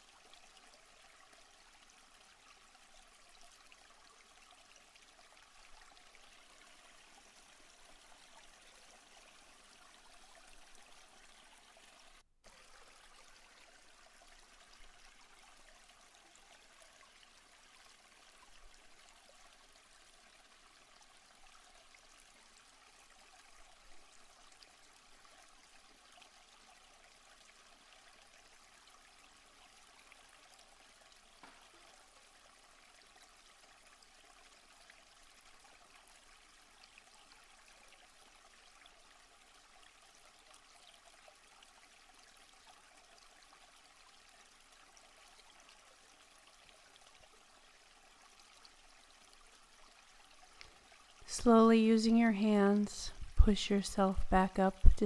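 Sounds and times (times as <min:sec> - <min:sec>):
stream running water: 0:00.0 - 0:55.0.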